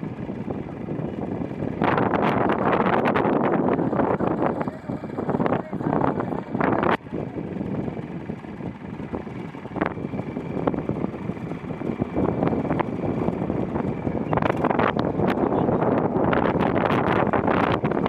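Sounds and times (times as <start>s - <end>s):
tractor engine running: 0.0s - 18.0s
wind buffeting microphone: 0.0s - 18.0s.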